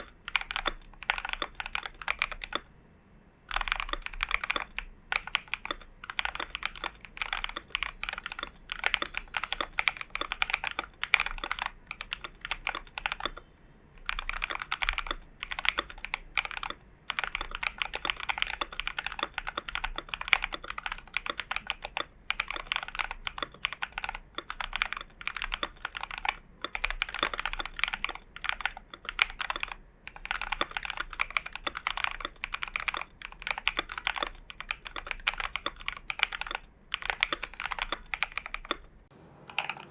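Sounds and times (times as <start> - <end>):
mechanical keyboard typing: 0.0 - 2.7, 3.5 - 39.9.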